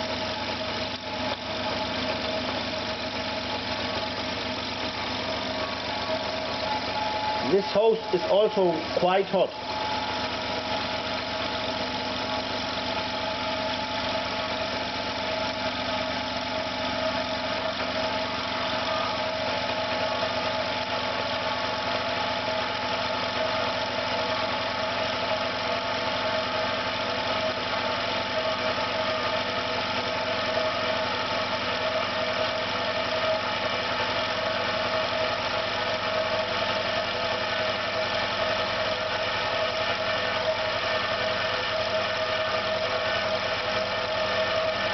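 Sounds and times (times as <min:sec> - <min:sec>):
electric air compressor running: 0:00.0 - 0:44.9.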